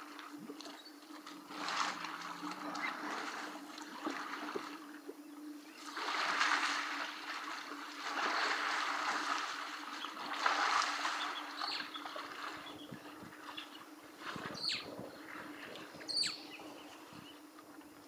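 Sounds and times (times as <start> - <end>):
muddy water sloshing and splashing: 0.0 - 17.2.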